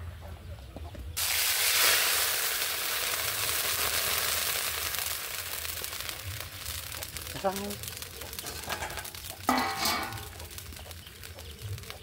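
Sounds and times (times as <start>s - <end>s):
food sizzling in hot oil: 1.2s - 12.0s.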